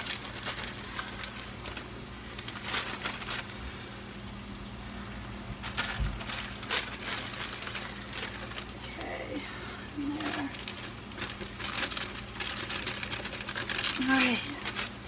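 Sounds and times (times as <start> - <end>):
broccoli rustling into a dish: 0.0 - 15.0.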